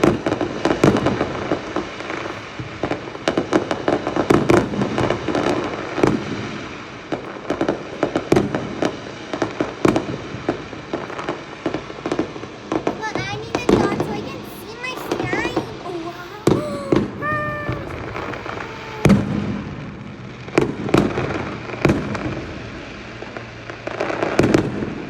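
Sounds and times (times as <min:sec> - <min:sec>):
fireworks bangs and pops: 0:00.0 - 0:25.0
fireworks crackling: 0:00.0 - 0:25.0.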